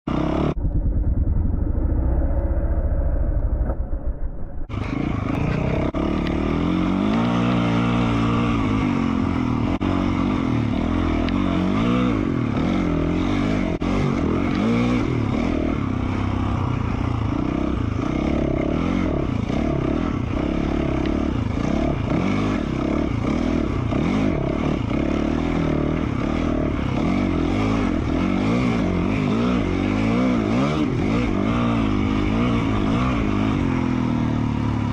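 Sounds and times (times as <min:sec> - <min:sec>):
dirt bike engine revving: 0:00.1 - 0:02.4, 0:04.7 - 0:34.9.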